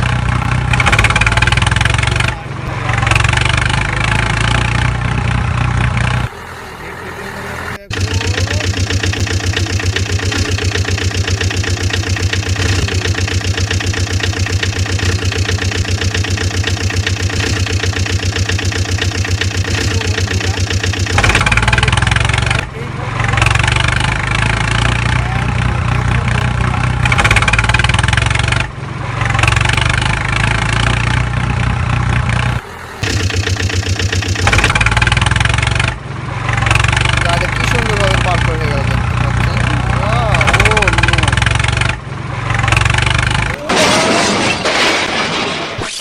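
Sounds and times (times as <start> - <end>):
tractor diesel engine chugging: 0.0 - 43.6.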